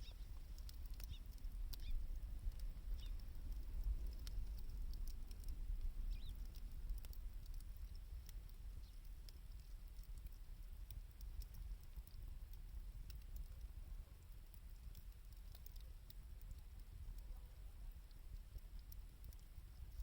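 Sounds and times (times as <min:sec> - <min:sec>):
bonfire crackling: 0:00.0 - 0:20.0.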